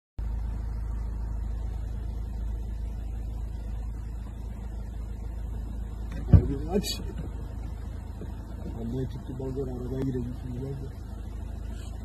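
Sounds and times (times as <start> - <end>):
car engine running: 0.2 - 12.0.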